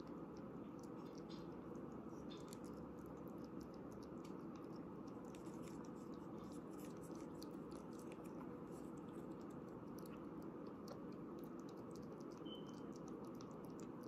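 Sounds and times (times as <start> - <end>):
ferret licking and lapping: 0.0 - 14.0
low background hum: 0.0 - 14.0.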